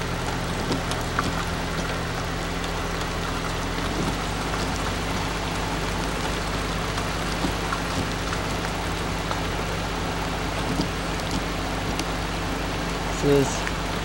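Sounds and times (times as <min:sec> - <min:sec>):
car engine humming: 0:00.0 - 0:14.0
tyre and road noise: 0:00.0 - 0:14.0.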